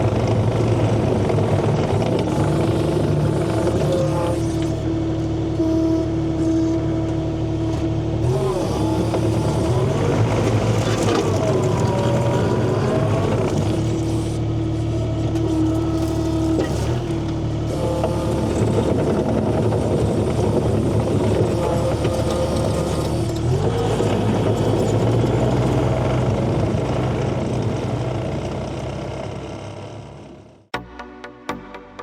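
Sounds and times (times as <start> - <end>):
engine humming: 0.0 - 30.7.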